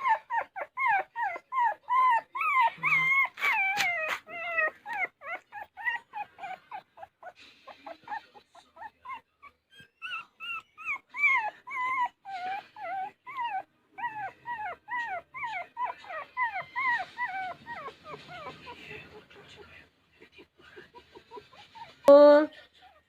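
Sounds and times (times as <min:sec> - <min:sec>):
puppy whimpering: 0:00.0 - 0:23.0.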